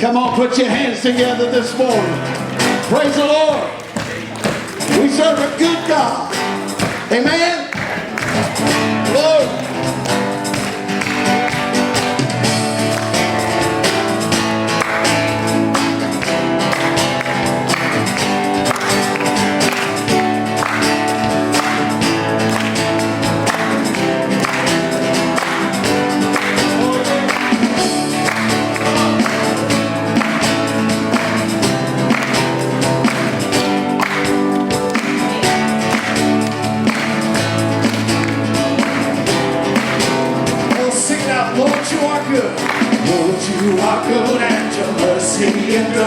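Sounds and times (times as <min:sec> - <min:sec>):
worship band playing instrumental music: 0:00.0 - 0:46.0.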